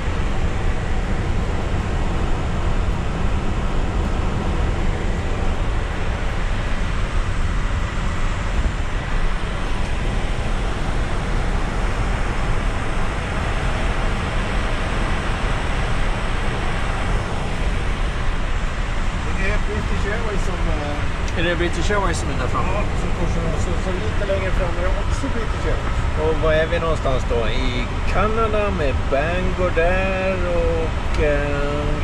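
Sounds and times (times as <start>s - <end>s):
rushing aircraft cabin noise: 0.0s - 32.0s.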